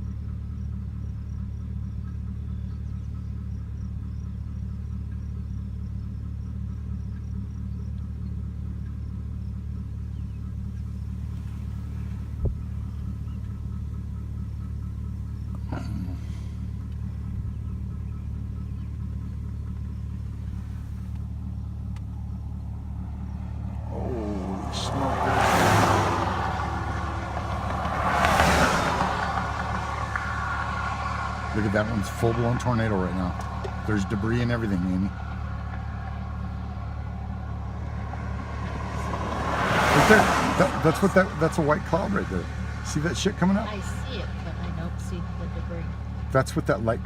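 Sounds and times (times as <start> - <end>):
low rumble: 2.5 - 46.4.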